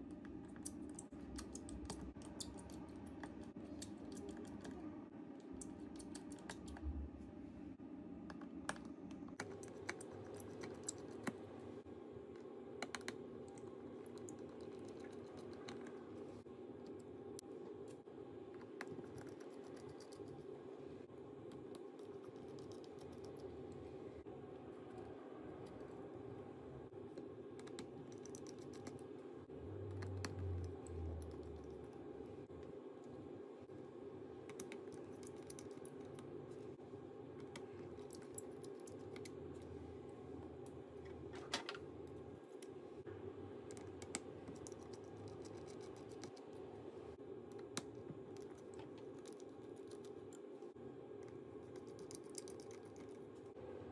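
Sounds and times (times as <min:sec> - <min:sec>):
steady hum: 0:00.0 - 0:53.9.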